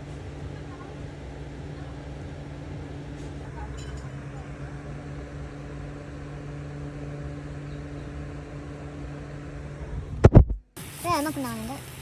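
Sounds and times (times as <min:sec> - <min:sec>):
motor or fan humming: 0:00.0 - 0:12.0.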